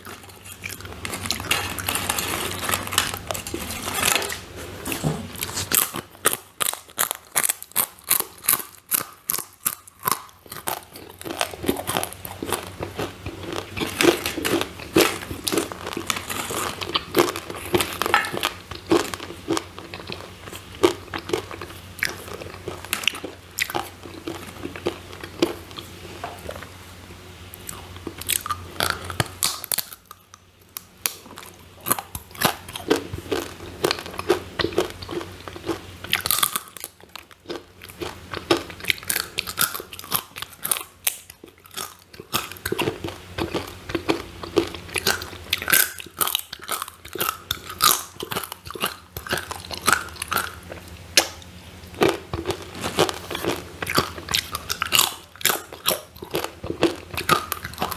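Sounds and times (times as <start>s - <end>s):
crunching and chewing chips: 0.0s - 26.7s, 27.5s - 57.9s.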